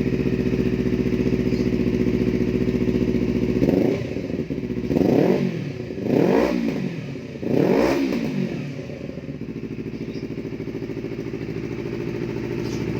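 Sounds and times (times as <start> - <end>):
motorcycle engine revving and idling: 0.0 - 12.9.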